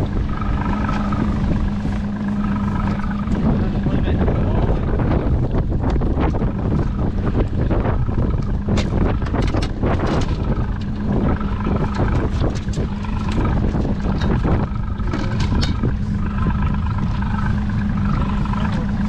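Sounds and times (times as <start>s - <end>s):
boat motor humming: 0.0s - 19.0s
wind buffeting microphone: 0.0s - 19.0s.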